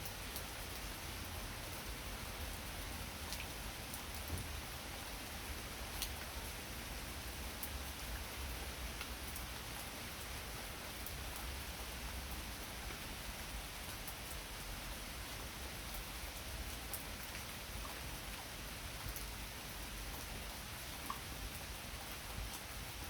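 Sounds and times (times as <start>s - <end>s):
raindrops ticking nearby: 0.0s - 23.0s.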